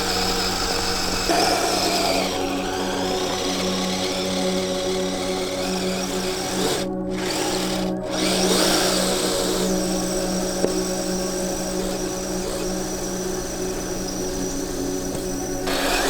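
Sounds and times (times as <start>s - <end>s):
toy vehicle electric motor whine: 0.0s - 16.0s.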